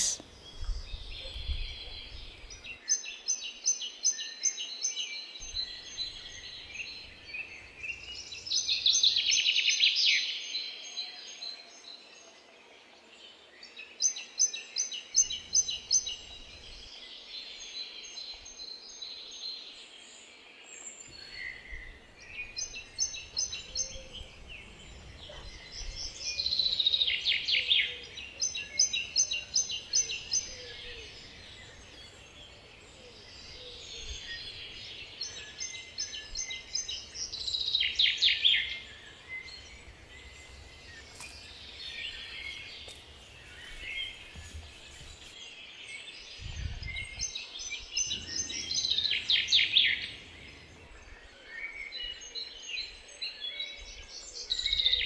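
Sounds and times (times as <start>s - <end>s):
small songbirds singing: 0.0s - 55.0s.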